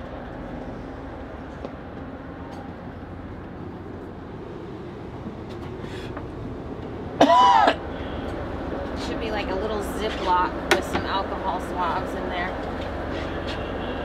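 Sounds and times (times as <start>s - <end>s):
ship machinery rumble: 0.0s - 14.0s.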